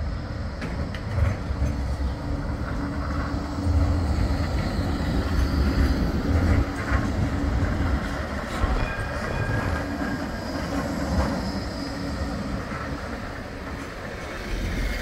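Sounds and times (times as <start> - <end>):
tram rumbling past: 0.0 - 15.0.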